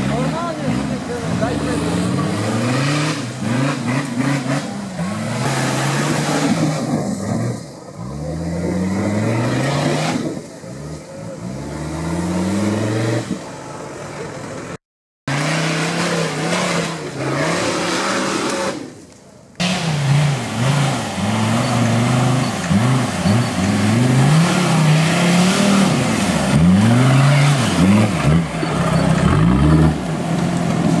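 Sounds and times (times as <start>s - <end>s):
engine revving hard: 0.0s - 13.4s, 15.3s - 19.0s, 19.6s - 30.1s.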